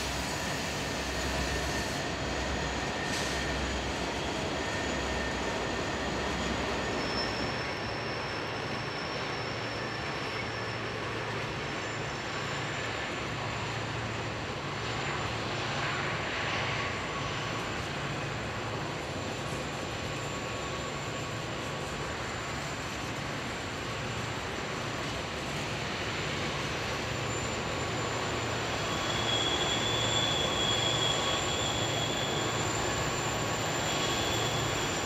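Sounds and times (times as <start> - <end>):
freight train rolling on rails: 0.0 - 35.0.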